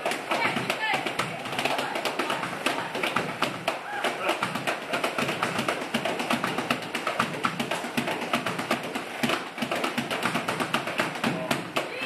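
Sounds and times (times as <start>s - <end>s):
cajons played by hand: 0.0s - 12.0s.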